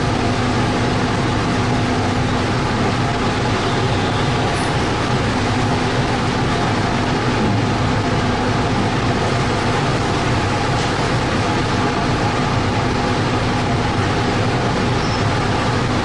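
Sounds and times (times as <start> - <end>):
ship engine and deck machinery drone: 0.0 - 16.0.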